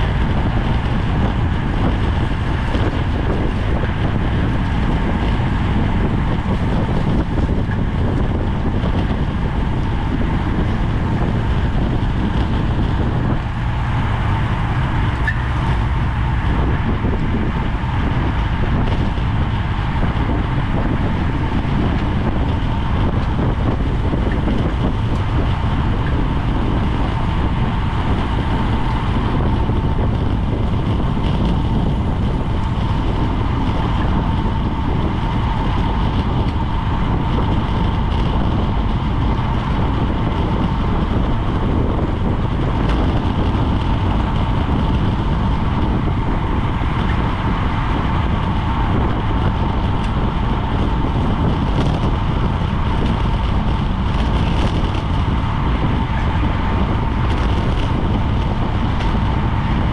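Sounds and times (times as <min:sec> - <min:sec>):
thin steady whine: 0:00.0 - 0:59.9
tyre and road noise: 0:00.0 - 0:59.9
wind buffeting microphone: 0:00.0 - 0:59.9.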